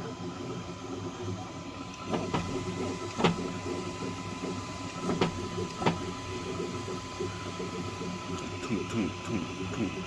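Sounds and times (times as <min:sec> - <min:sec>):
printer running: 0:00.1 - 0:10.0.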